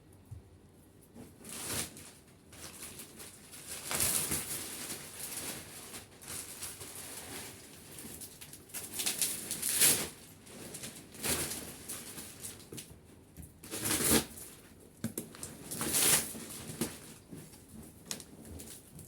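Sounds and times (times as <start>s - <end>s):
plastic packaging rustling: 1.2s - 12.9s, 13.6s - 19.0s.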